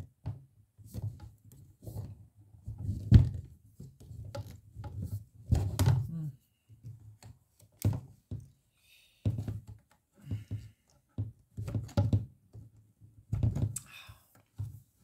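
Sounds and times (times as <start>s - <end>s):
plastic tubes knocking: 0.0s - 6.1s, 6.8s - 8.6s, 9.2s - 14.8s.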